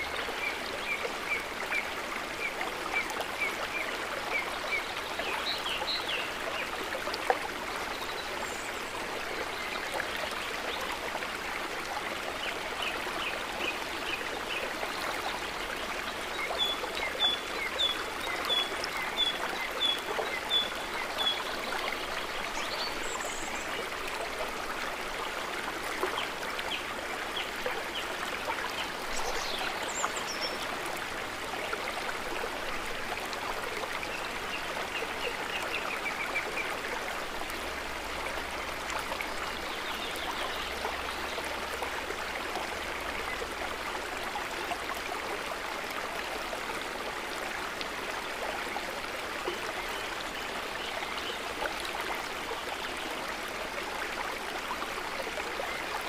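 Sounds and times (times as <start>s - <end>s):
lake water trickling: 0.0s - 56.0s.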